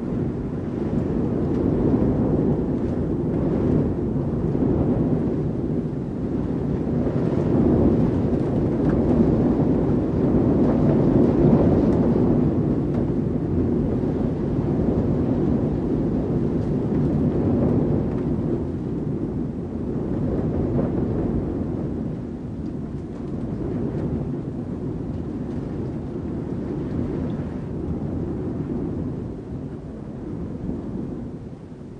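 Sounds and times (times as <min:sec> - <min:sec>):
wind rumbling indoors: 0:00.0 - 0:31.9.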